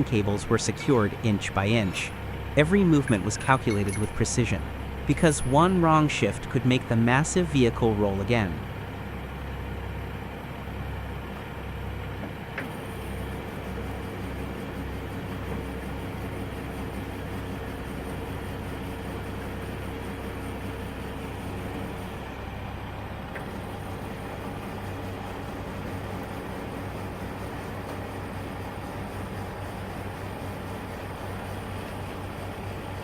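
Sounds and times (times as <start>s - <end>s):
heavy vehicle engine running: 0.0s - 33.0s.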